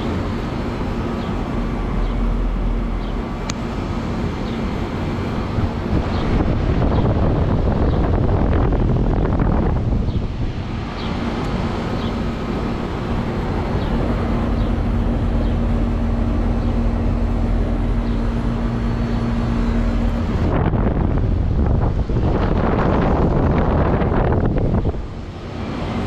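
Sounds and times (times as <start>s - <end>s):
condenser fan rush of air: 0.0s - 26.0s
steady hum: 0.0s - 26.0s.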